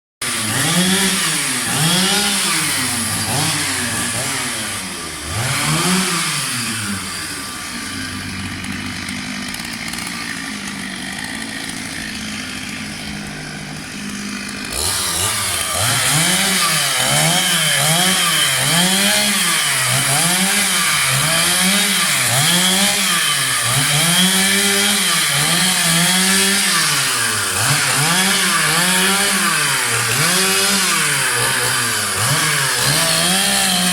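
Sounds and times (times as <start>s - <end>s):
chainsaw revving: 0.2s - 33.9s.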